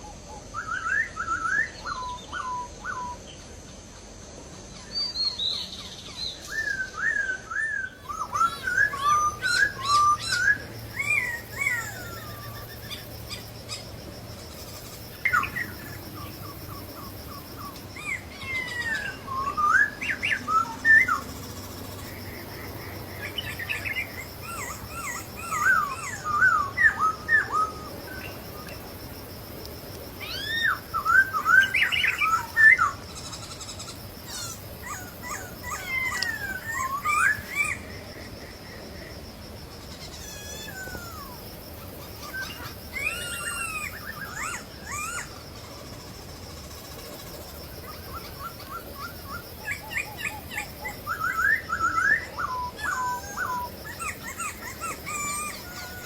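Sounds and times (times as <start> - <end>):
birds chattering calls: 7.9 - 29.0, 30.2 - 39.2, 39.8 - 56.0.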